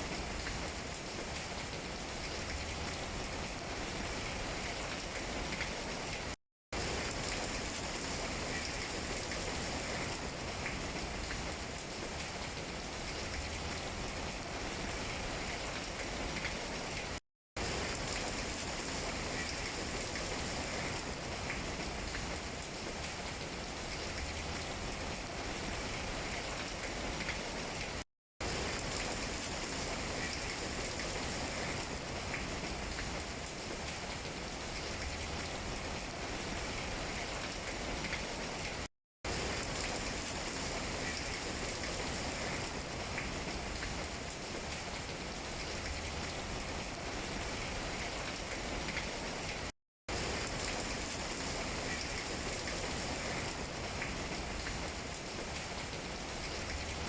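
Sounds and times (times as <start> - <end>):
rain on tree leaves: 0.0 - 57.0.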